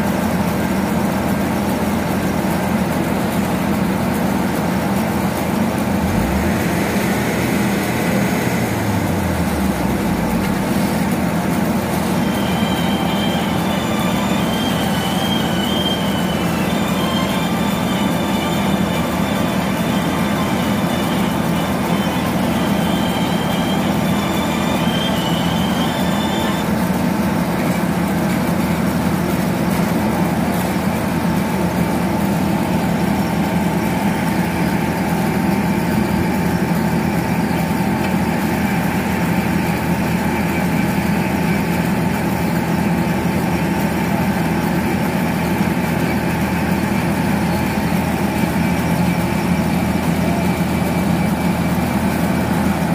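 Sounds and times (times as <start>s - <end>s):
diesel machinery running: 0.0s - 52.9s
high whine: 4.1s - 52.9s.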